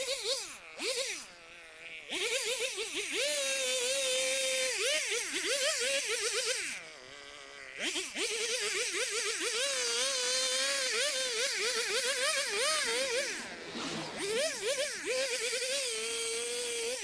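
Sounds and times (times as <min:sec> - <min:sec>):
hedge trimmer engine revving: 0:00.0 - 0:17.0.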